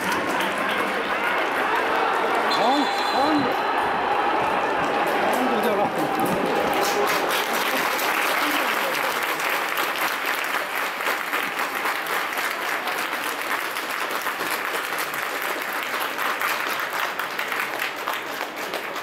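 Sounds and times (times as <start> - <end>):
stadium crowd clapping: 0.0 - 19.0.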